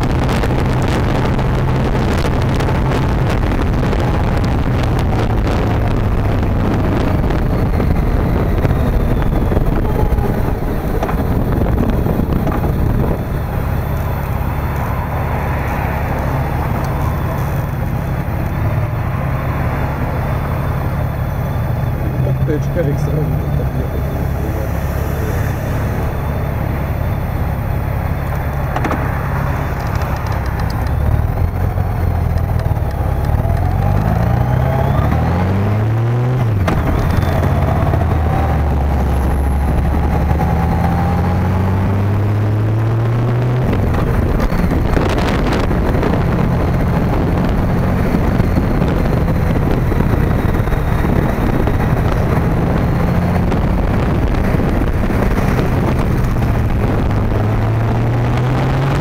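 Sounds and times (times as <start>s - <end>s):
motorcycle engine accelerating: 0.0s - 59.0s
wind noise rushing: 0.0s - 59.0s.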